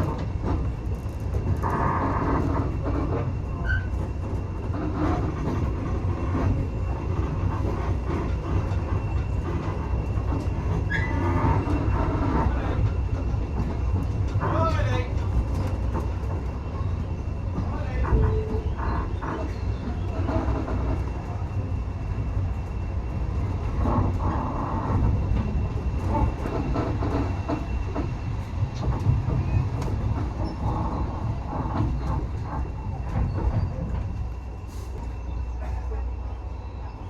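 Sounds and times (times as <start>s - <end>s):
train carriage rumble: 0.0s - 37.0s.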